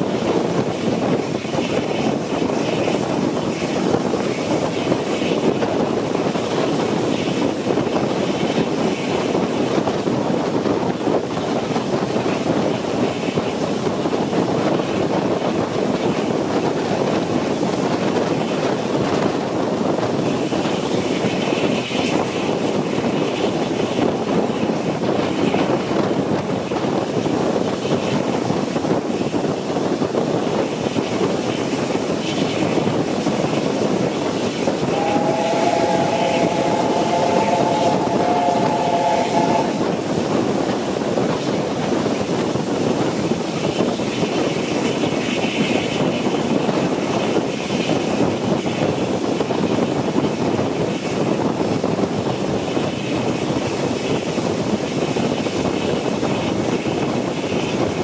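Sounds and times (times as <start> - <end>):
train wheels rumbling on track: 0.0 - 58.0
wind noise: 0.0 - 58.0.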